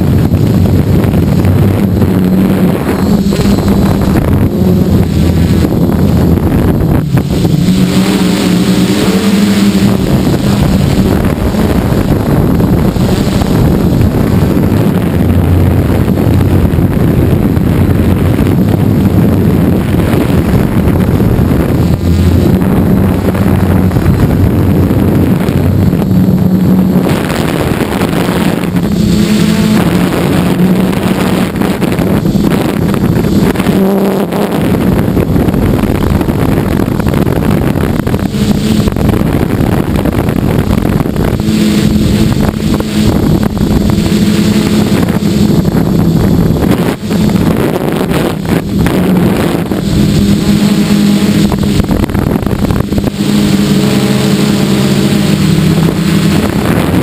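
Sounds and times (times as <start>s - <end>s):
quadcopter motors buzzing: 0.0s - 57.0s
wind noise on microphone: 0.0s - 57.0s.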